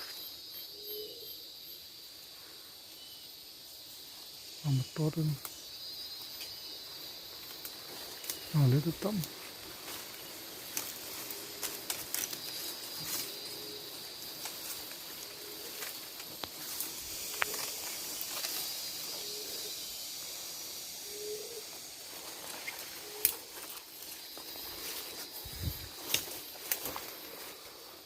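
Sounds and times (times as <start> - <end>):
high insect chorus: 0.0 - 28.0.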